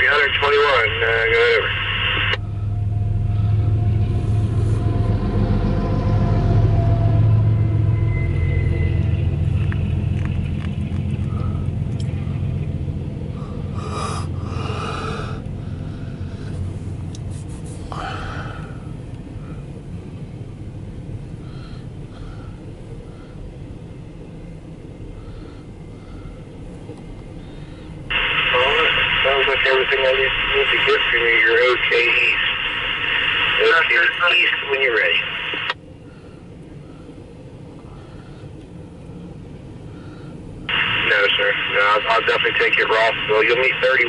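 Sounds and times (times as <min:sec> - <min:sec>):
diesel locomotive engine rumble: 0:00.0 - 0:44.0.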